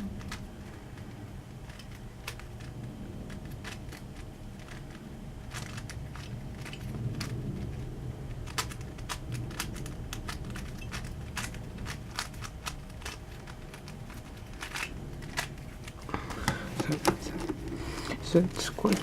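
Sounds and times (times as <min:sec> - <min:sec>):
plastic puzzle clicking: 0:00.0 - 0:19.0.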